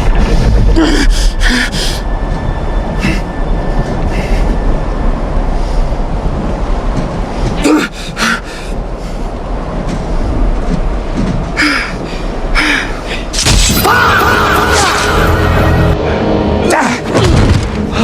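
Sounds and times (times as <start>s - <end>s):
steady noisy rumble: 0.0s - 18.0s.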